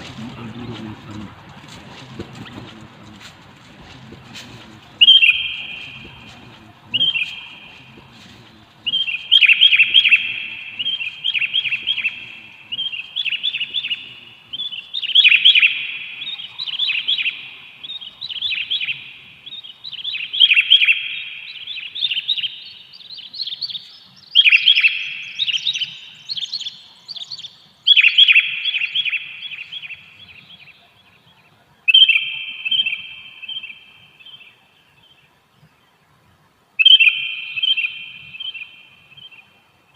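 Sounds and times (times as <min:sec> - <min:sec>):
birds chattering calls: 0:00.0 - 0:36.2, 0:36.8 - 0:39.9.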